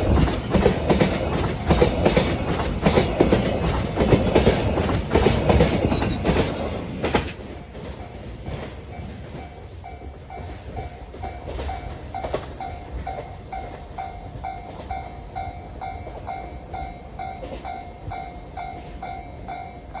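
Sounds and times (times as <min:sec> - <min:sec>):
freight train wagons clattering: 0:00.0 - 0:19.1.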